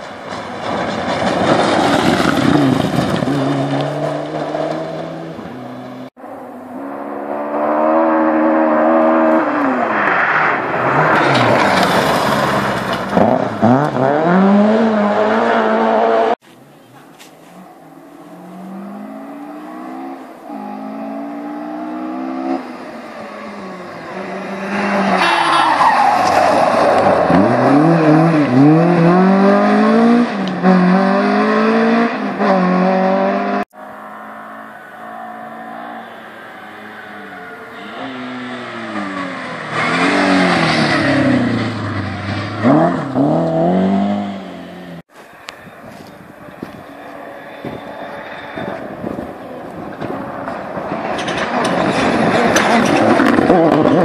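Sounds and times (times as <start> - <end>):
rally car engines revving hard: 0.6 - 6.2, 6.8 - 16.4, 18.2 - 45.1, 47.1 - 54.0.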